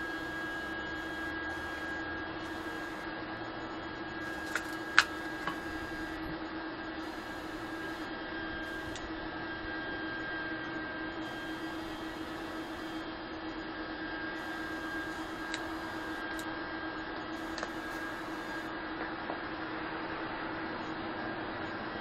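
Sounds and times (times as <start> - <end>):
faint high whine: 0.0 - 22.0
machine hum: 0.0 - 22.0.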